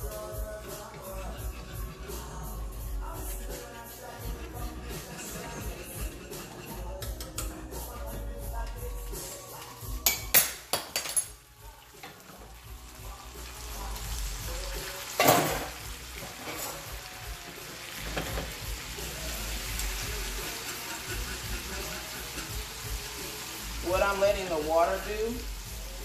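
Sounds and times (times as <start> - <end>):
syrup sizzling in a saucepan: 0.0 - 26.0.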